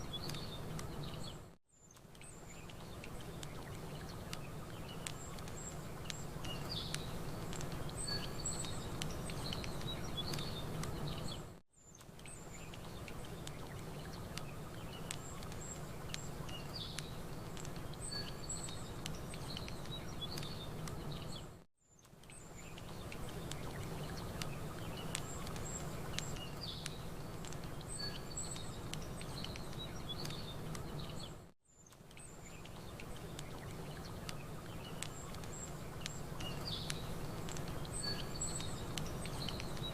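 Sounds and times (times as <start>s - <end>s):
campfire crackling and popping: 0.0s - 1.0s, 2.0s - 11.4s, 12.0s - 21.4s, 22.1s - 31.3s, 31.9s - 39.9s
small birds chirping: 0.0s - 39.9s.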